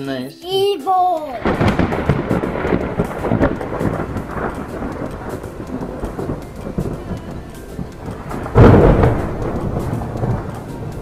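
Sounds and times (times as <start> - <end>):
loud thunderclap: 1.4 - 11.0
thunder rumble: 1.4 - 11.0.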